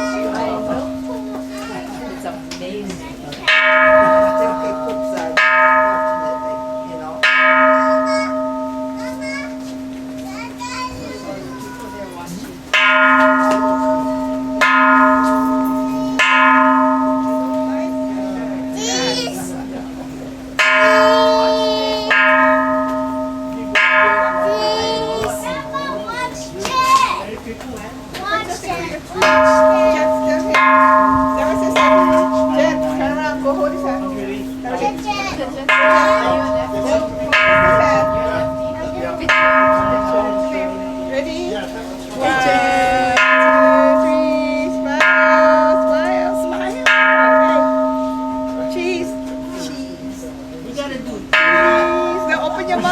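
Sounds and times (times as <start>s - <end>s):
temple bell ringing: 0.0s - 52.9s.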